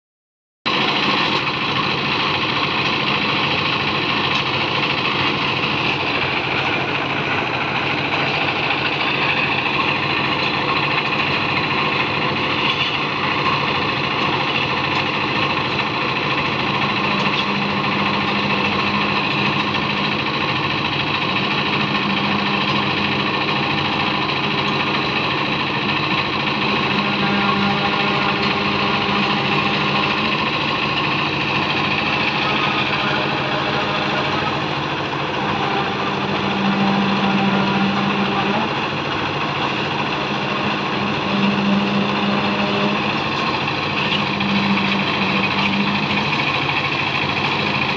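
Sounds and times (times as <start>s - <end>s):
engine running: 0.7s - 47.9s.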